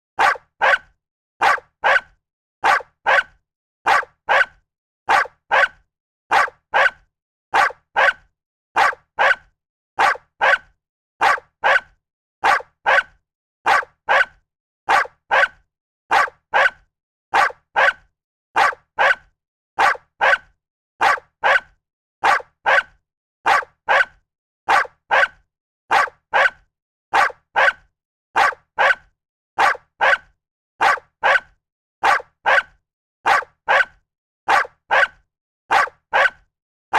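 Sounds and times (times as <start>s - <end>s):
dog barking: 0.2s - 36.5s.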